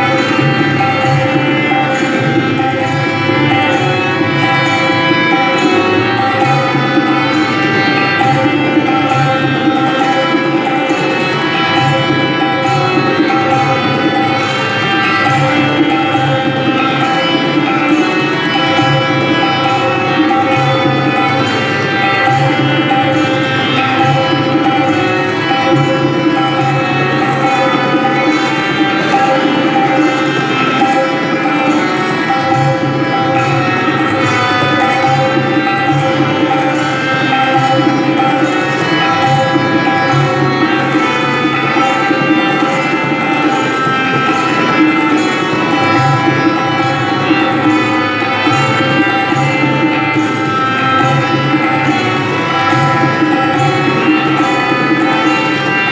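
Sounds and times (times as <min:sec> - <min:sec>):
sustained melodic accompaniment: 0:00.0 - 0:55.9
tabla playing fast rhythm: 0:00.0 - 0:55.9.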